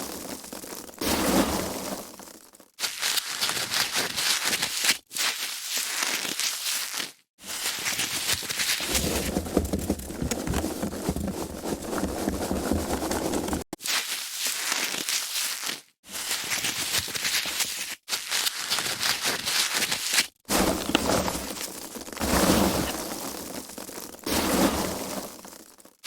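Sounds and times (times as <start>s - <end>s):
foam packaging crinkling: 2.3s - 24.3s.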